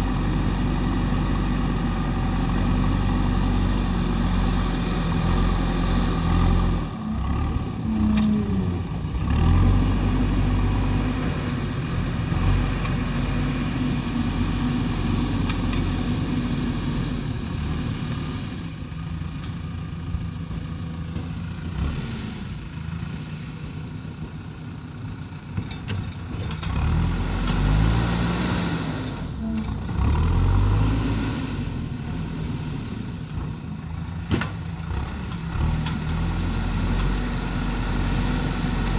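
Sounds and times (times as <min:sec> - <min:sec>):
diesel engine under varying load: 0:00.0 - 0:38.9.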